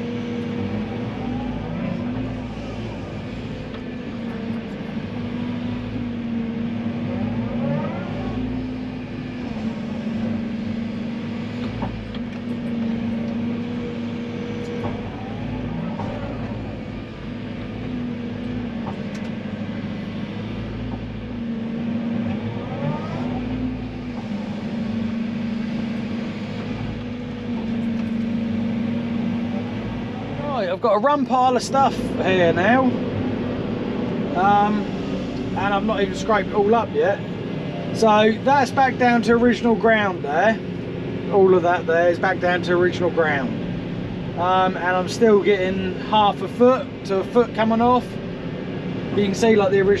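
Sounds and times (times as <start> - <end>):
digger diesel engine running: 0.0 - 50.0
hydraulic whines: 0.0 - 50.0.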